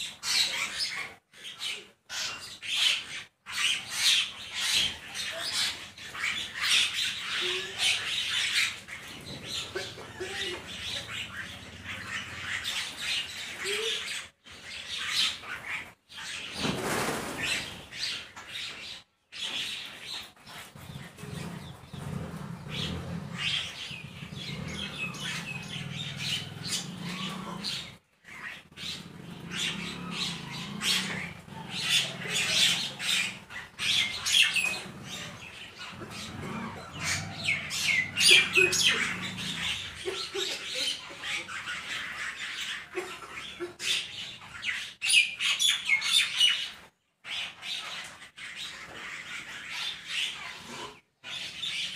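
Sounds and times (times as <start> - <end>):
flock of birds chattering: 0.0 - 51.9.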